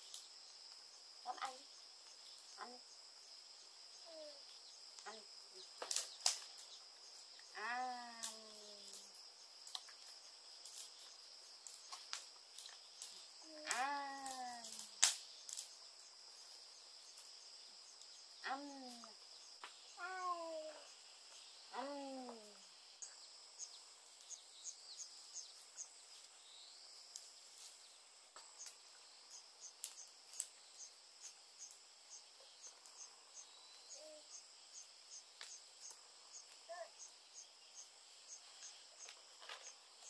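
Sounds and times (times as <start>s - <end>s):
insect chorus buzzing and chirping: 0.0s - 40.0s.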